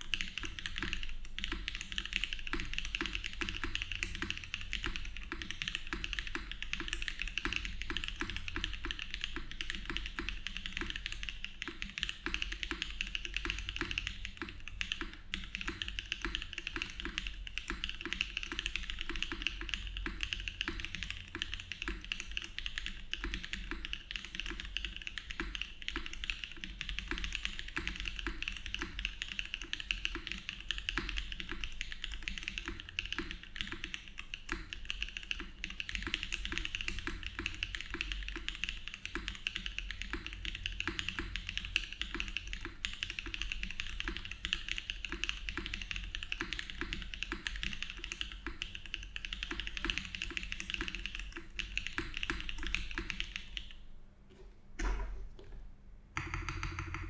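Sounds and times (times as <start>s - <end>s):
fast typing on mechanical keyboard: 0.0s - 53.8s, 56.2s - 57.0s.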